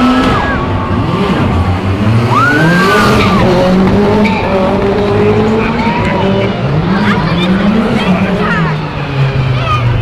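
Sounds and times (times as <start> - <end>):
car engine revving: 0.0 - 10.0
tyres skidding on tarmac: 0.0 - 10.0.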